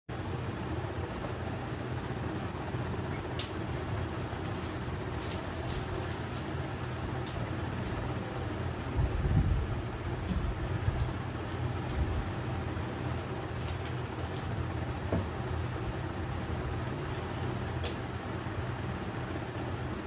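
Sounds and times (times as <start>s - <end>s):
low rumbling hum: 0.1s - 20.0s.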